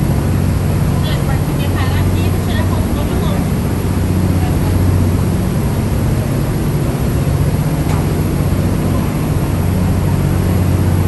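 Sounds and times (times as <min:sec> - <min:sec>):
even rushing noise: 0:00.0 - 0:11.0
ferry engine drone: 0:00.0 - 0:11.0.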